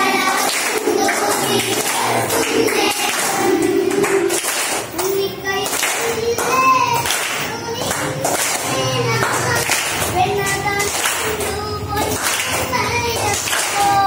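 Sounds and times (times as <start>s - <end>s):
children singing: 0.0s - 14.0s
hands clapping in time: 0.1s - 14.0s.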